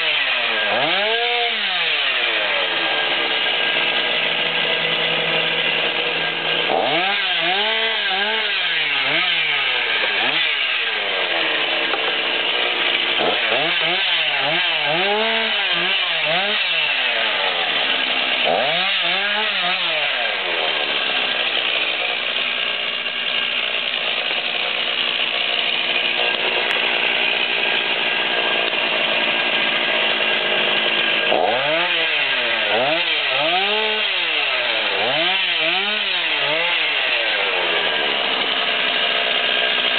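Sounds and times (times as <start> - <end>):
chainsaw cutting brush: 0.0 - 39.9.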